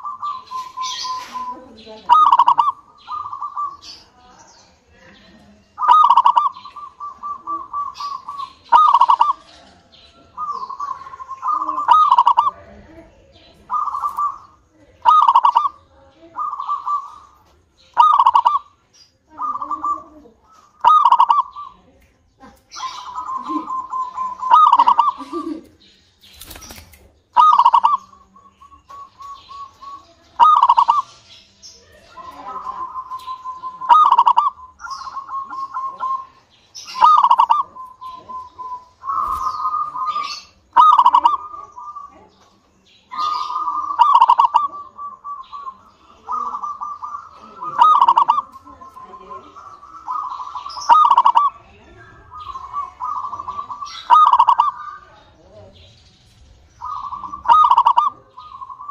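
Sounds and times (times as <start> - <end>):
dove cooing: 0.0 - 4.1, 5.1 - 21.8, 22.7 - 25.7, 26.4 - 31.1, 31.9 - 55.5, 56.8 - 58.9.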